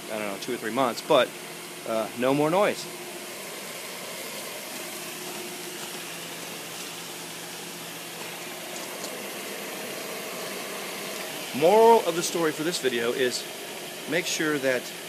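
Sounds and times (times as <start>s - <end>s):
pool pump humming: 0.0s - 15.0s
water flowing through pipes: 0.0s - 15.0s.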